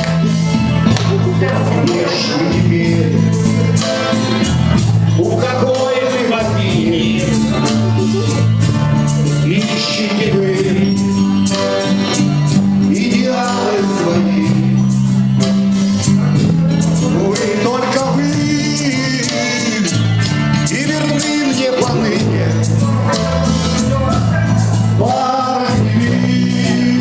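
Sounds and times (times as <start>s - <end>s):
sustained bass notes: 0.0s - 27.0s.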